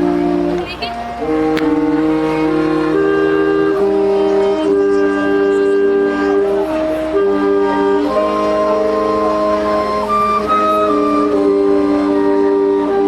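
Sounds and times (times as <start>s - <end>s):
wind band playing slow piece: 0.0s - 13.0s.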